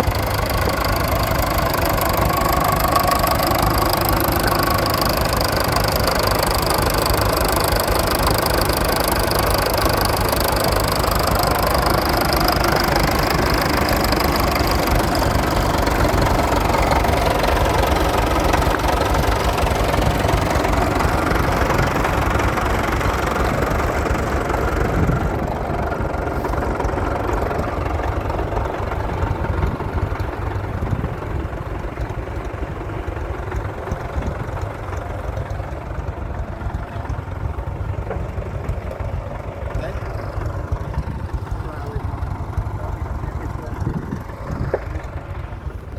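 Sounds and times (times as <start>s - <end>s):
tractor engine idling: 0.0s - 45.9s.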